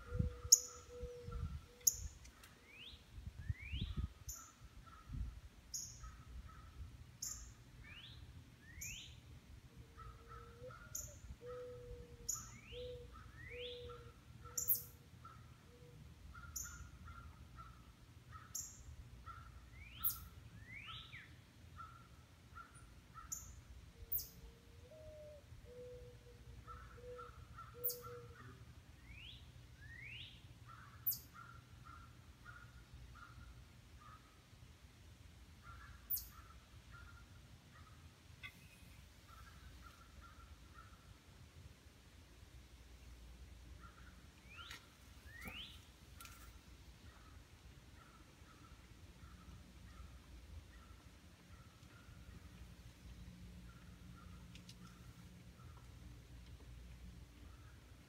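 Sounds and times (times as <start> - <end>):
low evenly spaced bird notes: 0.0 - 58.0.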